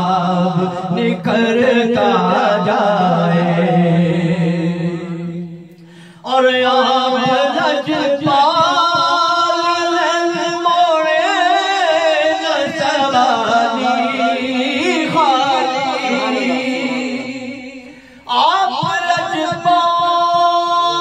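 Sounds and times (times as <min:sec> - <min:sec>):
man singing into a microphone: 0:00.0 - 0:21.0.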